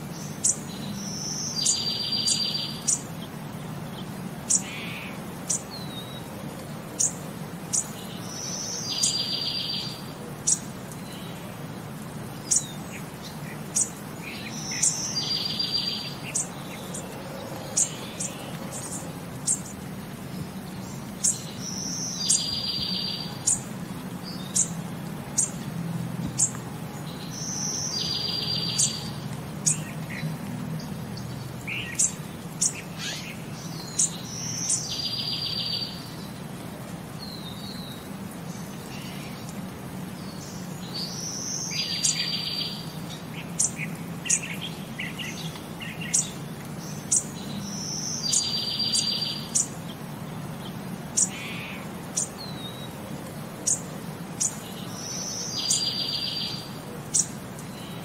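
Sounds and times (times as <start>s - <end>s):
birds chirping and trilling: 0.0s - 58.0s.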